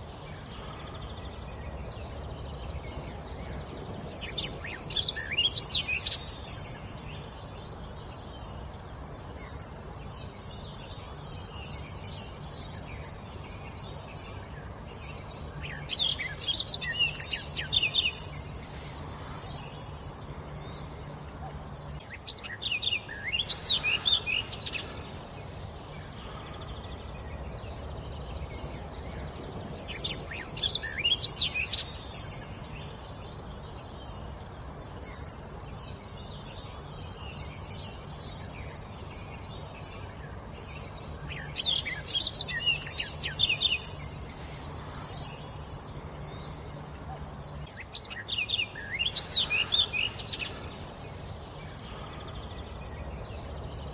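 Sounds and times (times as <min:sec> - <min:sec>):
low background rumble: 0:00.0 - 0:53.9.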